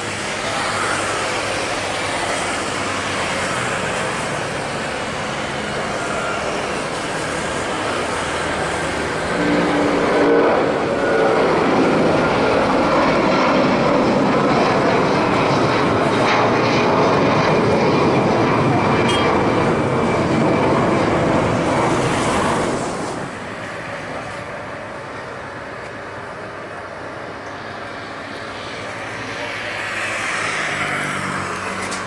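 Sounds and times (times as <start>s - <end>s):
jet engines at takeoff power: 0.0s - 32.0s.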